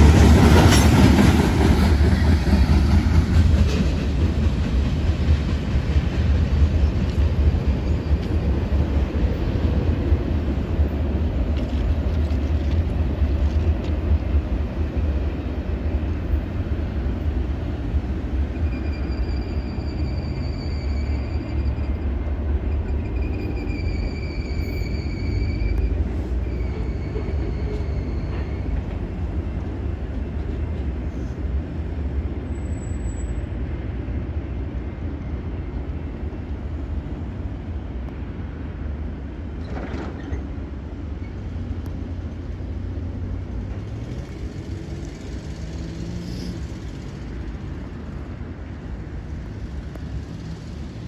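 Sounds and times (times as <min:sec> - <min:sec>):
diesel locomotive engine rumbling: 0:00.0 - 0:51.0.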